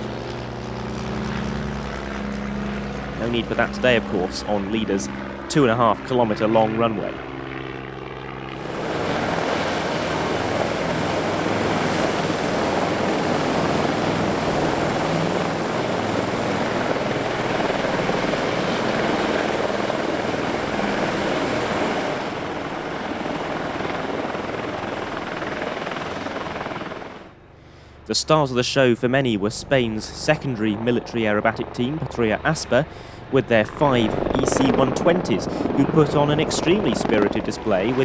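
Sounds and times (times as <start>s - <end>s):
helicopter rotor and engine: 0.0s - 38.0s.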